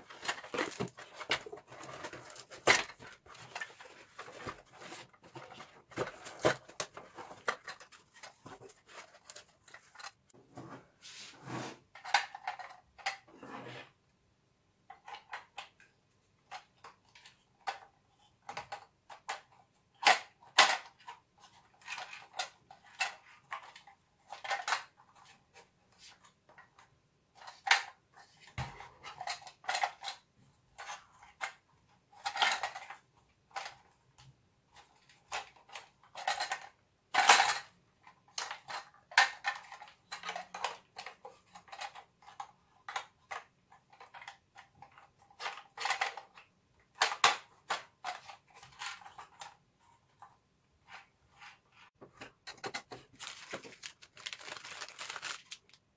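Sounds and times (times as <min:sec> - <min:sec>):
plastic clicks and rattles: 0:00.0 - 0:10.3, 0:11.9 - 0:13.3, 0:14.8 - 0:55.8.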